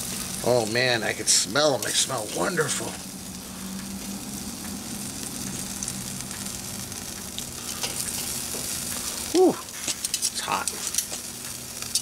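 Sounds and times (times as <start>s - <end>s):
chicken sizzling on a grill: 0.0s - 12.0s.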